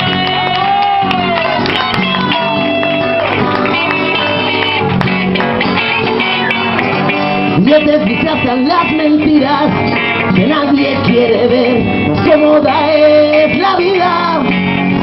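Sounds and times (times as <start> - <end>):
live rock band playing: 0.0 - 15.0
sliding guitar melody: 0.0 - 15.0.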